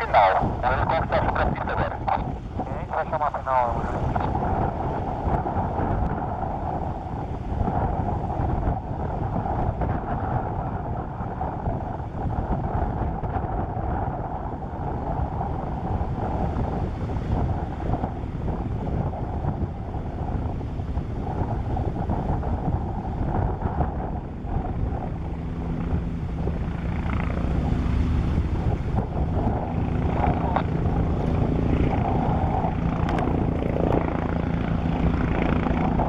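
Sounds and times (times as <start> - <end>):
helicopter engine and rotor: 0.0 - 36.0
wind buffeting microphone: 0.0 - 36.0.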